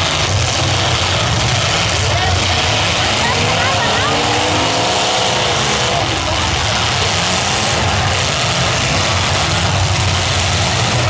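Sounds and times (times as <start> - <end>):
car engines running: 0.0 - 11.0.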